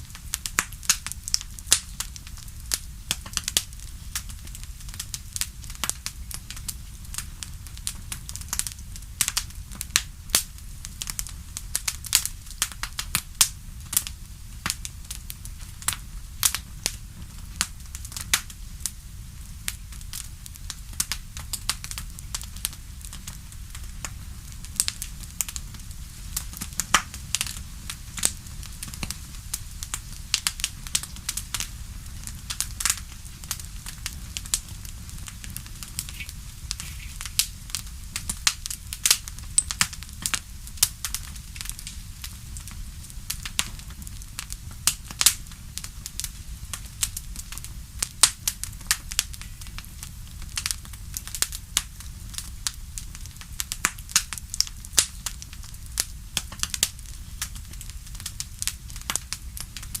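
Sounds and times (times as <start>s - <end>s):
fire crackling: 0.0s - 60.0s
low rumble of flames: 0.0s - 60.0s.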